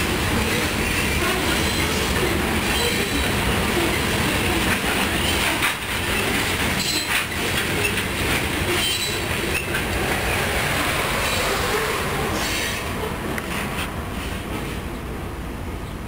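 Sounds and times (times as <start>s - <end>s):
freight train cars rolling on rails: 0.0s - 16.0s.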